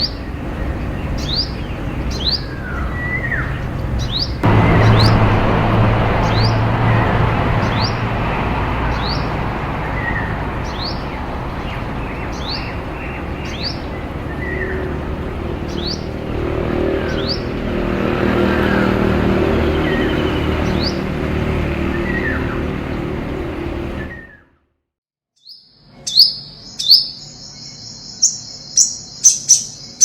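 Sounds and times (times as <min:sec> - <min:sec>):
engine-like hum and rushing: 0:00.0 - 0:24.7.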